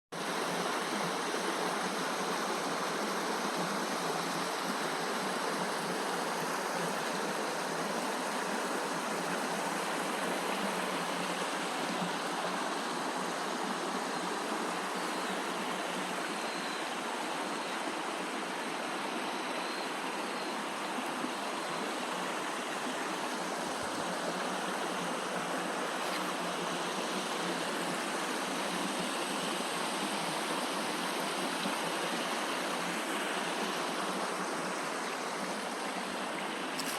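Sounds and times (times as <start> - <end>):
stream water rushing: 0.2 - 36.9.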